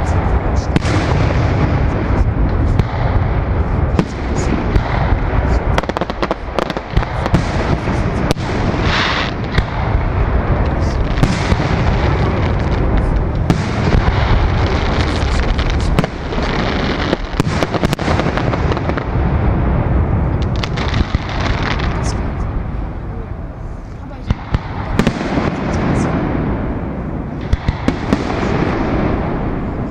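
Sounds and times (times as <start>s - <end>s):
fireworks booming and crackling: 0.0s - 29.9s.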